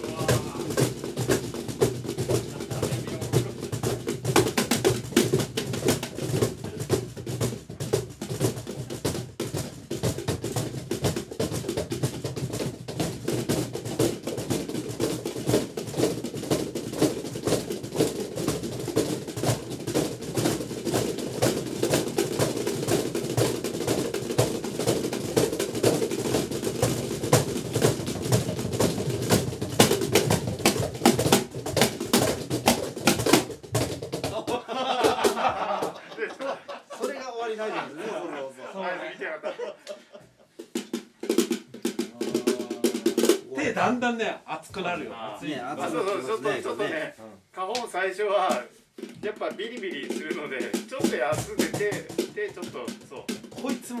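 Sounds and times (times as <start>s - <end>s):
cajons slapped and tapped: 0.0s - 37.1s, 39.8s - 44.0s, 44.8s - 47.0s, 47.6s - 54.0s.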